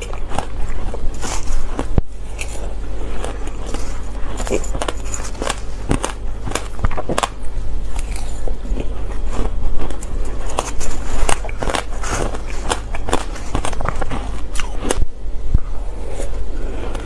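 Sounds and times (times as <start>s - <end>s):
crushed ice crunching as chewed: 0.0s - 15.0s
steady low hum: 0.0s - 17.0s.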